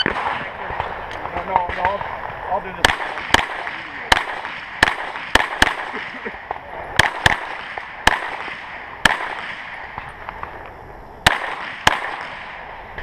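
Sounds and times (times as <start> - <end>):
pistol shots with echo: 0.0 - 10.6, 11.2 - 13.0.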